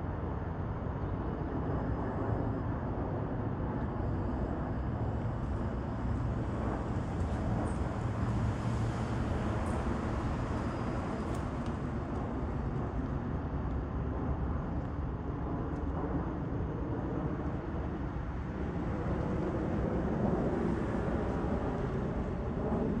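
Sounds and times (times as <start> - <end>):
jet flying overhead: 0.0 - 23.0.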